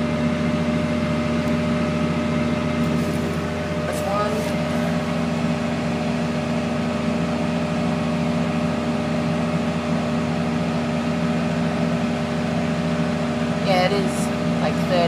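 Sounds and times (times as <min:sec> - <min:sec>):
tractor diesel engine droning: 0:00.0 - 0:15.0.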